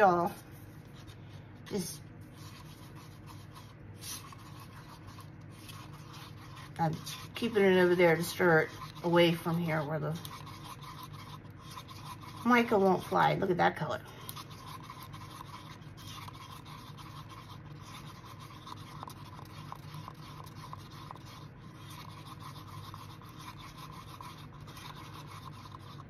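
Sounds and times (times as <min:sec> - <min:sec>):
stick scraping inside paper cup: 0:00.9 - 0:26.0.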